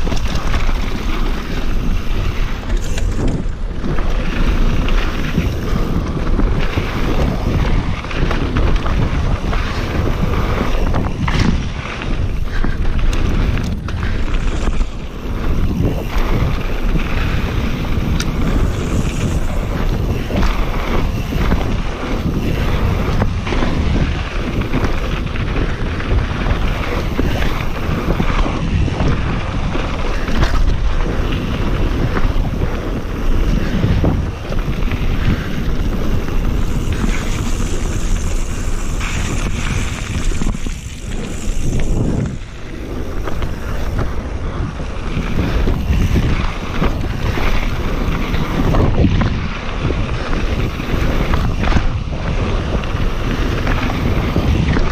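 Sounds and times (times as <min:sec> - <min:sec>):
bike rattling over bumps: 0:00.0 - 0:54.9
wind rushing over microphone: 0:00.0 - 0:54.9.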